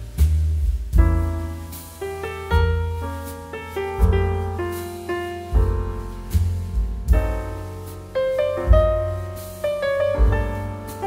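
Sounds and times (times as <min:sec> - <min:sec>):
instrumental piano music: 0:00.0 - 0:11.0
low bass notes: 0:00.0 - 0:11.0.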